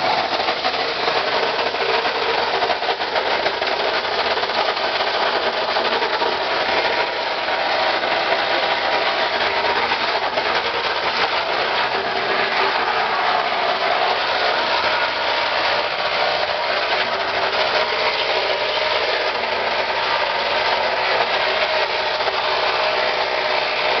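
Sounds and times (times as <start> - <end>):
plastic granulator grinding plastic: 0.0 - 24.0.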